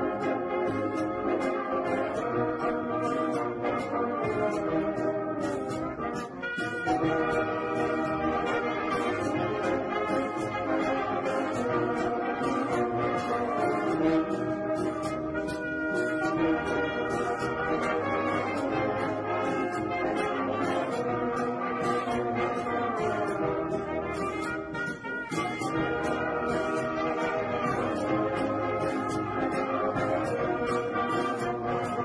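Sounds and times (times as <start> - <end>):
brass band playing: 0.0 - 32.0.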